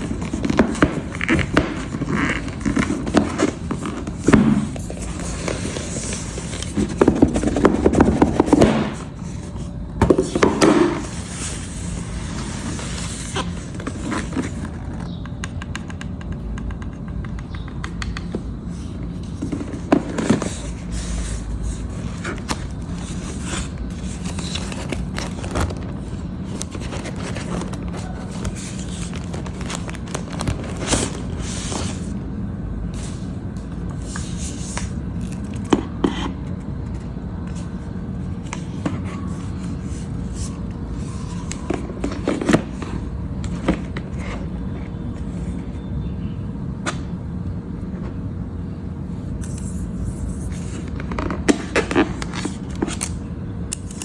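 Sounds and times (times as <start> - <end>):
laptop packaging rustling: 0.0 - 15.2, 16.8 - 32.2, 33.9 - 45.8, 49.4 - 54.0.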